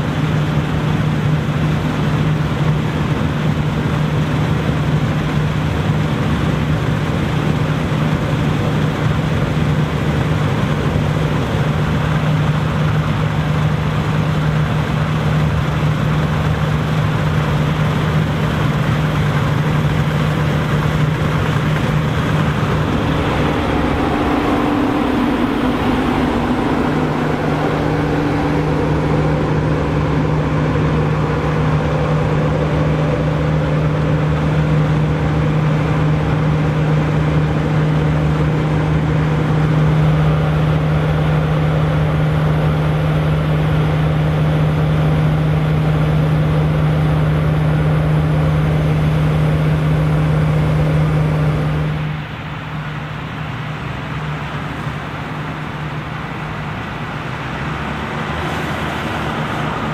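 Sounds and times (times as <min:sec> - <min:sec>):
combine harvesters threshing: 0:00.0 - 0:52.8
higher machinery tone: 0:00.0 - 0:59.9.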